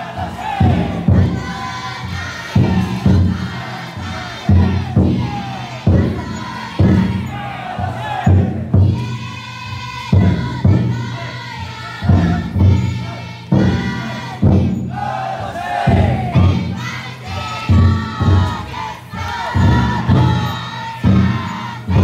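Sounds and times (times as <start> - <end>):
crowd chanting and shouting: 0.0 - 22.0
taiko drum heavy strokes: 0.0 - 22.0.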